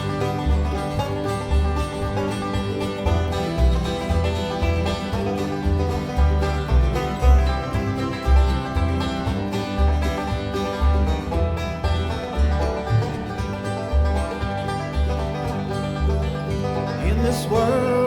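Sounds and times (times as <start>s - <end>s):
bluegrass band playing: 0.0s - 18.0s
plucked strings: 0.0s - 18.0s
steady bass beat: 0.0s - 18.0s.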